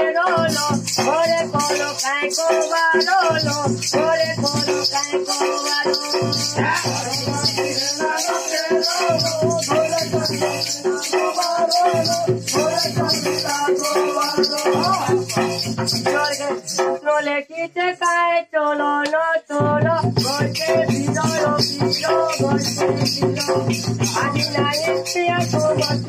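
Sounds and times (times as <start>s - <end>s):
shaking rattle jingle: 0.3s - 18.3s, 19.5s - 26.0s.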